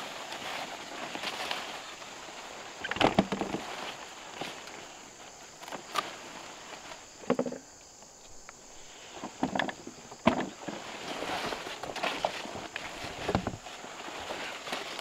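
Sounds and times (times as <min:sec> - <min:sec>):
leaves and vines rustling: 0:00.0 - 0:15.0.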